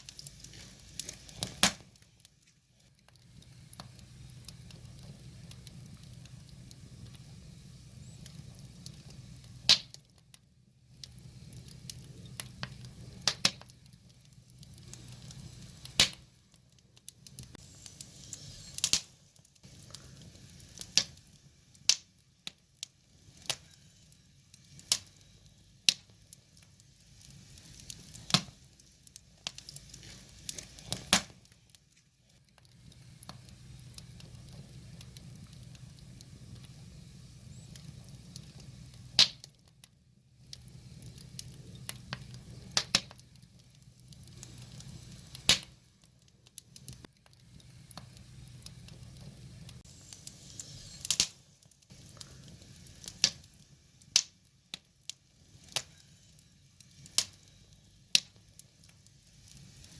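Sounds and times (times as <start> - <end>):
firewood popping and crackling: 0.0 - 59.9.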